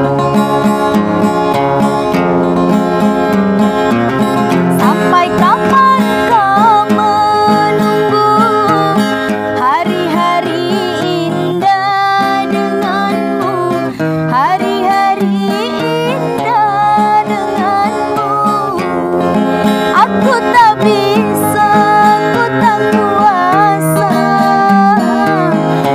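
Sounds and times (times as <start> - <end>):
strummed acoustic guitar: 0.0 - 25.9
woman singing: 4.4 - 25.9.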